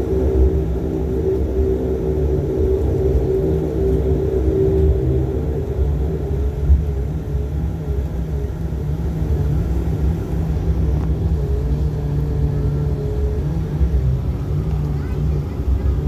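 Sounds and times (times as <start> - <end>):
turboprop engines rumbling in cabin: 0.0 - 16.0.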